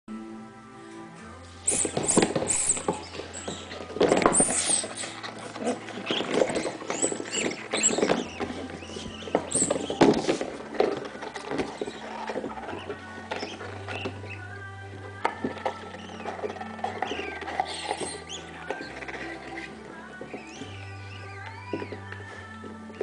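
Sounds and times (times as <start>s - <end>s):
rubber dog toy squeaking: 1.6s - 23.0s.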